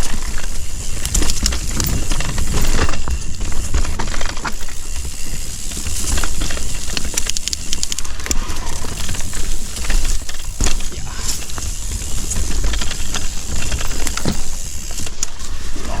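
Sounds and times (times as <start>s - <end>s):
bike chain and frame rattling: 0.0s - 16.0s
tyres crunching over rock: 0.2s - 16.0s.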